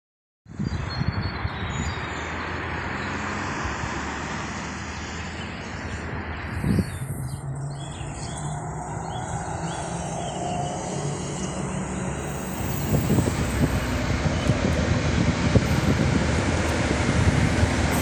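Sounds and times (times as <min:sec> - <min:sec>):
vehicle low rumble: 0:00.6 - 0:18.0.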